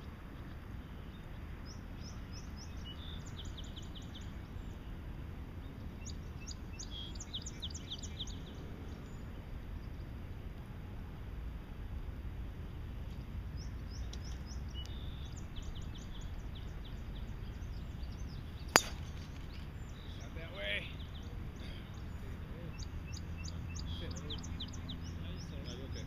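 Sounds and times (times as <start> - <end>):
low outdoor rumble: 0.0 - 26.0
small songbird singing: 0.4 - 5.0, 5.6 - 10.2, 13.5 - 26.0.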